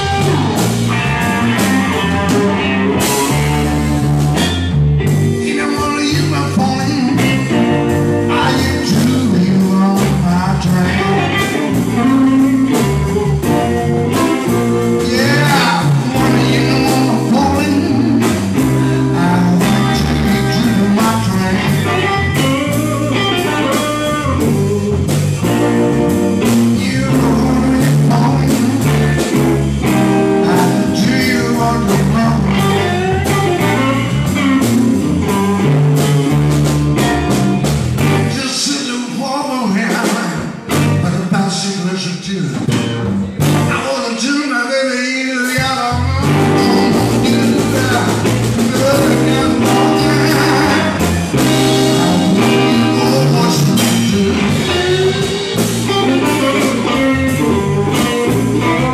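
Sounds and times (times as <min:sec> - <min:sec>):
drum kit beat: 0:00.0 - 0:38.4, 0:39.9 - 0:41.4, 0:42.5 - 0:43.9, 0:45.5 - 0:58.9
electric bass: 0:00.0 - 0:44.1, 0:45.4 - 0:58.9
electric guitar: 0:00.0 - 0:58.9.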